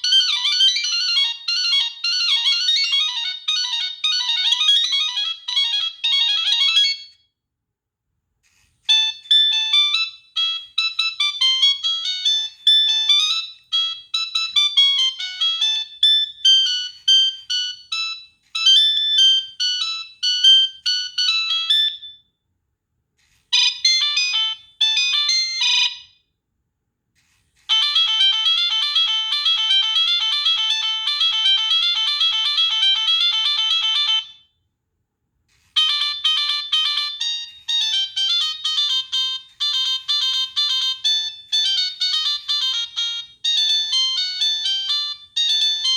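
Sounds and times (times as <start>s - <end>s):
mobile phone ringtones: 0.0s - 7.2s, 8.9s - 22.2s, 23.5s - 26.2s, 27.7s - 34.5s, 35.8s - 45.9s.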